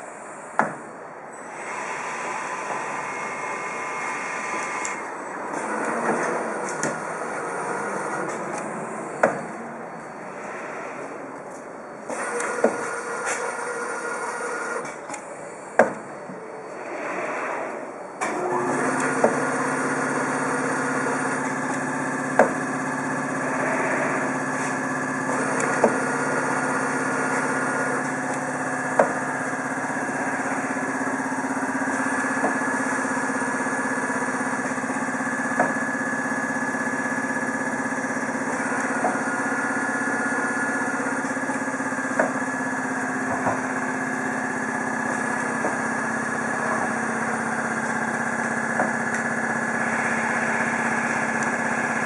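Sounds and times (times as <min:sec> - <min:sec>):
filling machine motor hum: 0:00.0 - 0:52.0.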